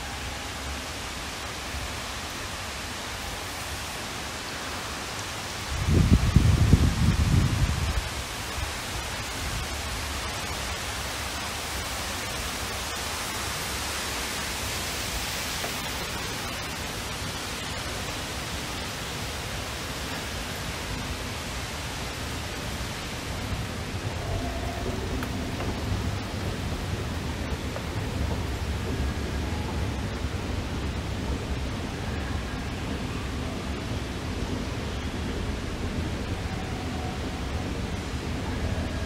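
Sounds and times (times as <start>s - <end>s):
falling water rushing: 0.0s - 39.0s.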